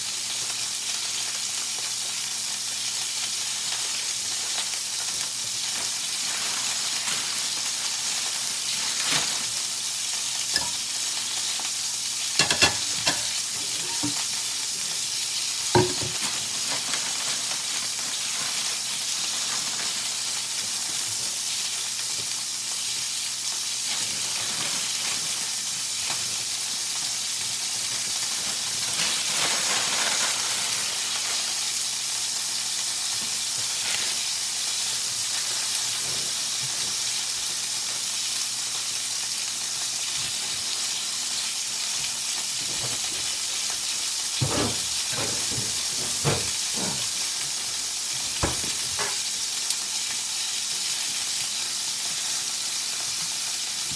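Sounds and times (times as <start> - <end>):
steak sizzling in a frying pan: 0.0 - 53.9.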